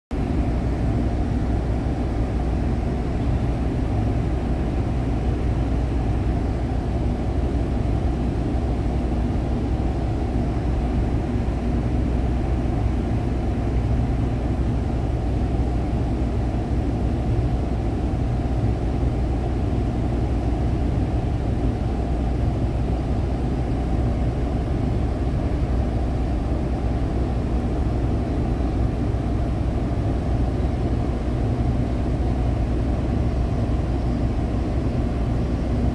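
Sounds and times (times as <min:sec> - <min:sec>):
low machinery drone: 0:00.2 - 0:35.9.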